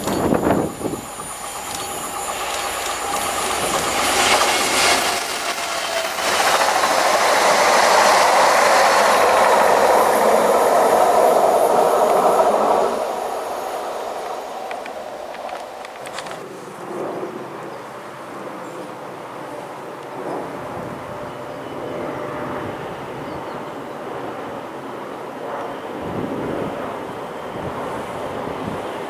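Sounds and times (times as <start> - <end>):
train passing at speed: 0.0 - 29.0.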